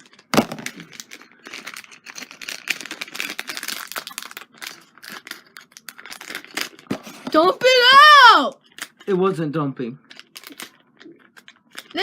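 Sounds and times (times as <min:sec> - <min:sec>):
plastic packet crinkling and tearing: 0:00.0 - 0:12.0.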